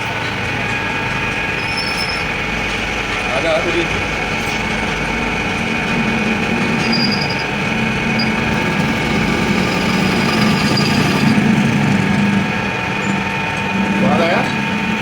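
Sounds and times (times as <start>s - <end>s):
machine motor hum: 0.0s - 15.0s
machine whine: 0.0s - 15.0s.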